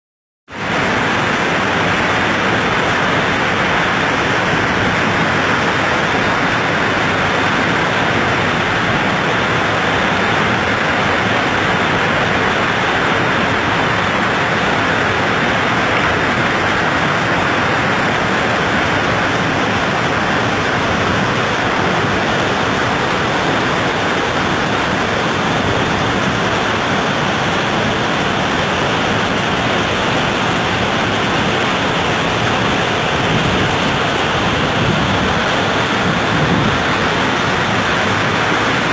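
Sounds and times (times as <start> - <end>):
waterfall rushing: 0.5 - 38.9.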